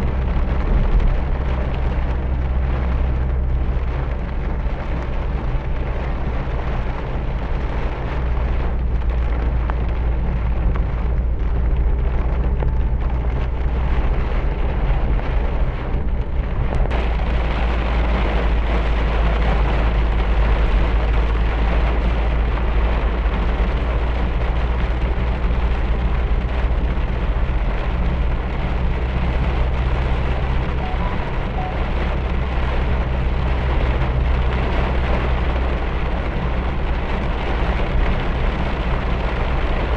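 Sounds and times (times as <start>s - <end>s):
heavy rain falling: 0.0s - 39.9s
low rumble: 0.0s - 39.9s.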